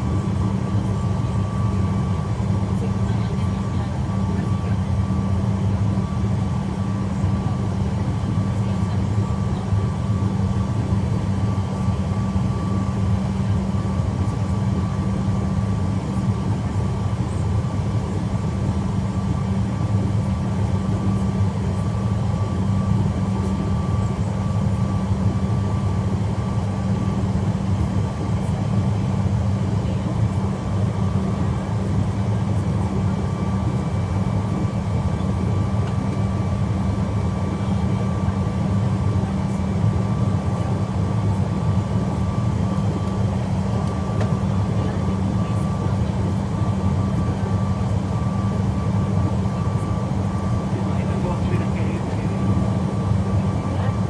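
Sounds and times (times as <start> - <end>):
jet engine whine: 0.0 - 54.0
jet engines droning: 0.0 - 54.0.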